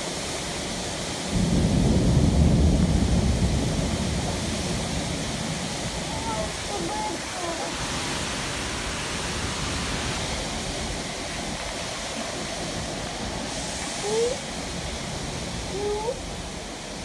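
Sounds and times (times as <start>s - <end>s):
storm wind through trees: 0.0s - 17.0s.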